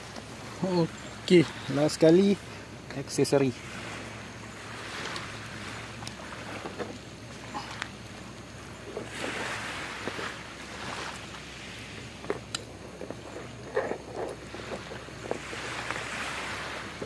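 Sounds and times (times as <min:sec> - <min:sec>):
small waves washing on shore: 0:00.0 - 0:17.0
steady wind: 0:00.0 - 0:17.0.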